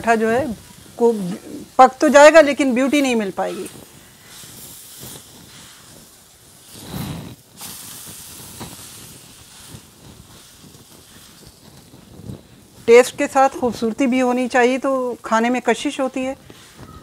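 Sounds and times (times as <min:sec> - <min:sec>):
flatbread sizzling in a pan: 0:00.0 - 0:17.0.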